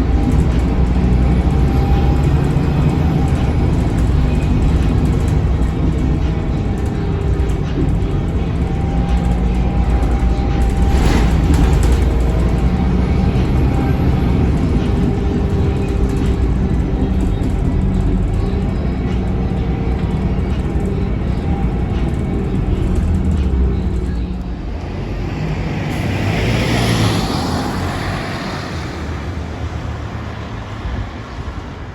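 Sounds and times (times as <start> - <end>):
bus diesel engine drone: 0.0 - 31.9.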